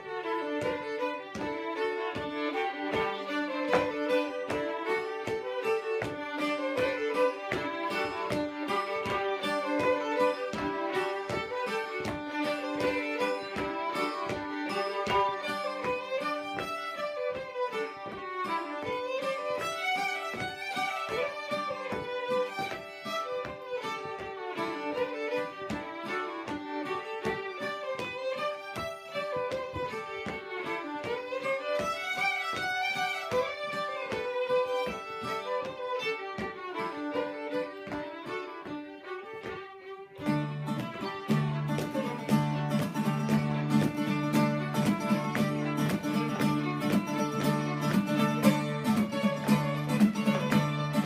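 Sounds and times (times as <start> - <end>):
fiddles playing a folk tune: 0.0 - 51.0.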